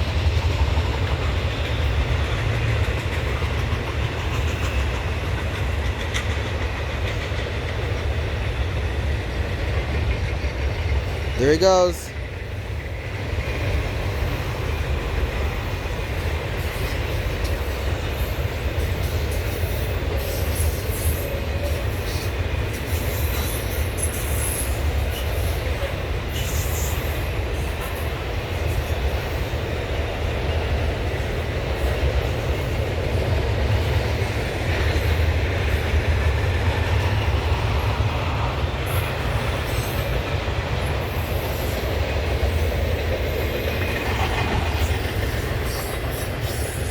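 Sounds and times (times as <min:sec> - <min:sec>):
rail clicking: 0:00.0 - 0:46.9
train wheels rumbling on rail: 0:00.0 - 0:46.9.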